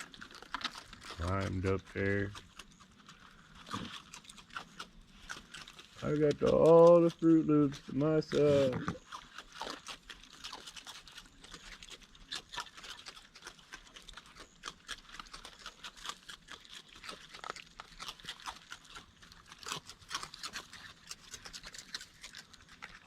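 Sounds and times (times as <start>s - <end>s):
raccoon crunching cereal: 0.0s - 23.0s.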